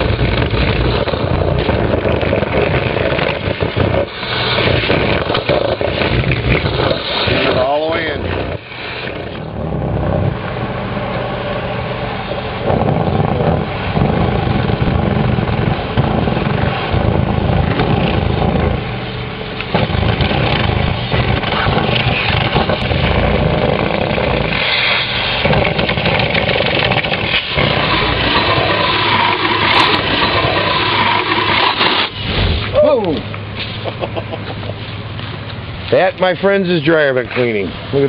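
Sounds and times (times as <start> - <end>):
motor drone: 0.0 - 35.9.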